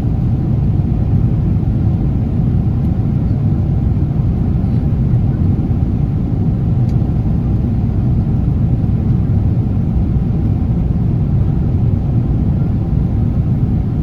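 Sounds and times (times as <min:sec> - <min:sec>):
airliner cabin roar: 0:00.0 - 0:14.0.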